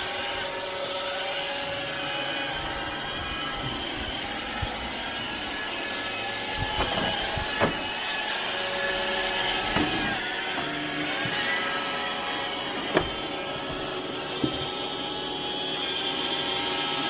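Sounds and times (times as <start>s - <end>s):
robot vacuum cleaner whirring: 0.0s - 17.0s.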